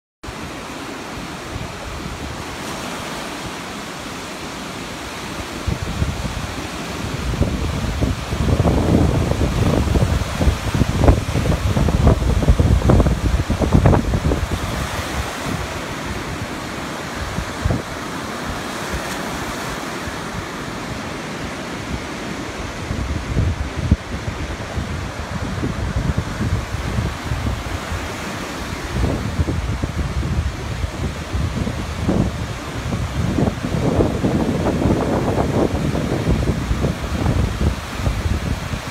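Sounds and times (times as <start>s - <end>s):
waves breaking on beach: 0.2s - 38.9s
wind buffeting microphone: 0.3s - 3.8s, 5.0s - 38.9s.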